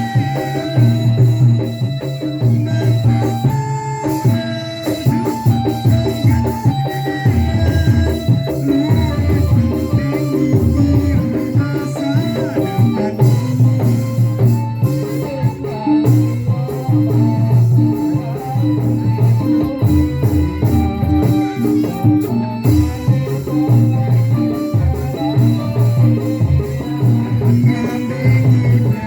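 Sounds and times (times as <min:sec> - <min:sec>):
drum beat: 0:00.0 - 0:29.0
live band music: 0:00.0 - 0:29.0.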